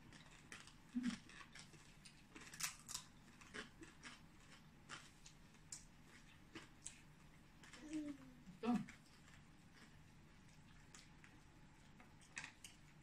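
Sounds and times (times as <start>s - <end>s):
chewing crunches: 0.0s - 8.0s, 8.8s - 13.0s.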